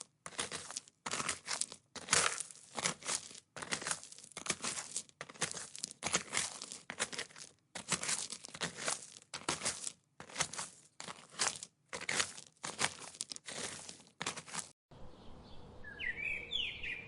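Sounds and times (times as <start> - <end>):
footsteps crunching on forest path: 0.0 - 14.8.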